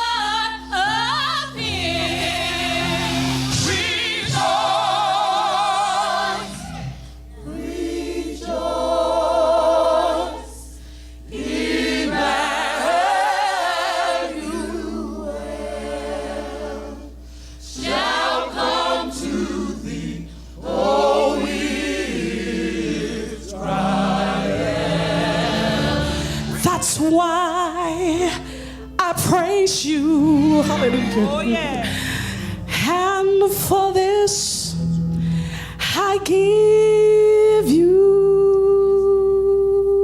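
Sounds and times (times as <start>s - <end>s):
gospel choir singing: 0.0s - 28.6s, 29.2s - 34.7s.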